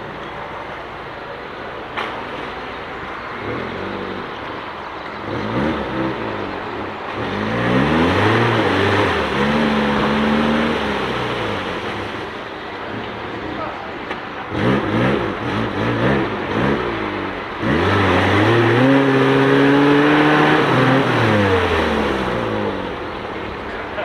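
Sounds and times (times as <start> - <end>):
off-road vehicle engine revving: 1.9 - 24.0.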